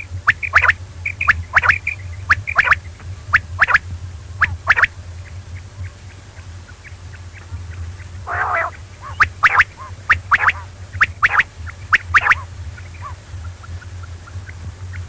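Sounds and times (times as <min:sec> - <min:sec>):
buzzy bird call: 0:00.0 - 0:15.0
quail calling: 0:00.0 - 0:15.0
steady low hum: 0:00.0 - 0:15.0.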